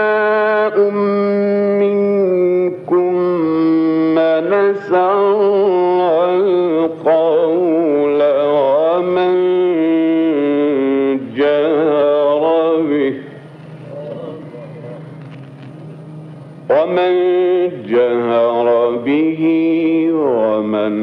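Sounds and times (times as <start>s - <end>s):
man chanting melodic recitation: 0.0s - 15.2s, 16.6s - 21.0s.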